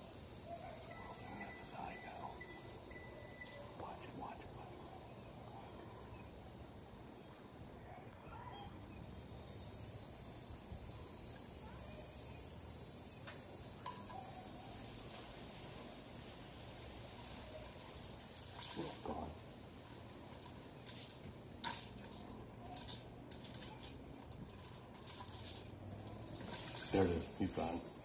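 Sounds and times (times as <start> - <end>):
insect chorus trilling: 0.0 - 7.8, 9.0 - 23.7, 25.0 - 28.0.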